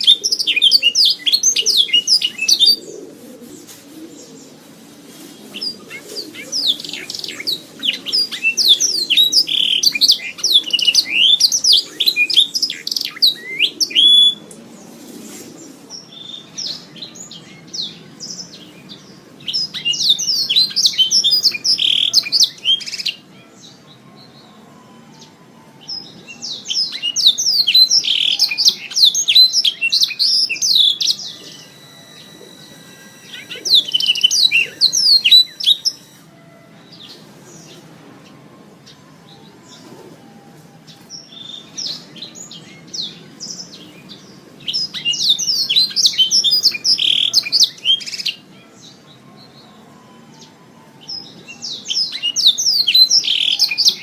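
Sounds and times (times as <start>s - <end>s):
canary singing trilled phrases: 0.0s - 3.4s, 5.5s - 14.6s, 15.9s - 37.9s, 38.8s - 54.0s.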